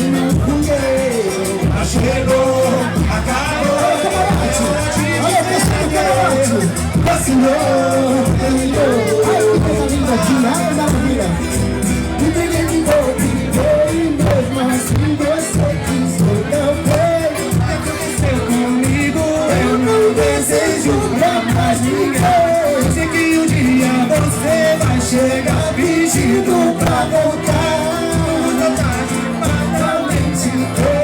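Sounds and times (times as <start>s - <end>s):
band music with percussion: 0.0s - 31.0s
person singing: 0.0s - 31.0s.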